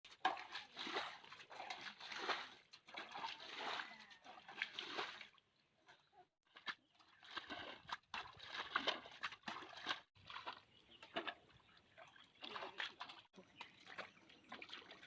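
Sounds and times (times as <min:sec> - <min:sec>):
splashing in shallow water: 0:00.1 - 0:15.0.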